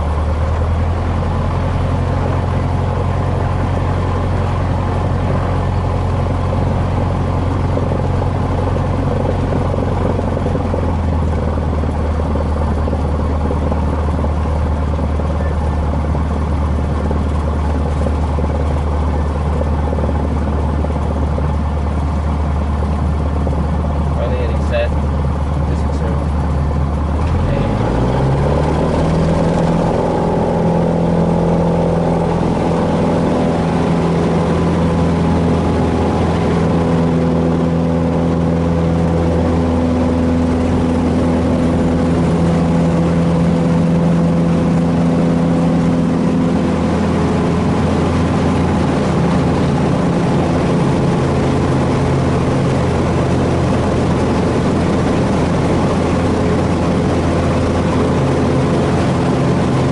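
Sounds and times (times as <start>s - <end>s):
light aircraft engine at full power: 0.0s - 59.9s.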